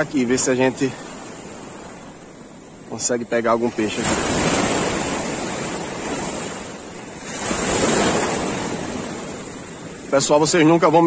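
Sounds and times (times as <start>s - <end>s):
small waves washing: 0.0s - 11.0s.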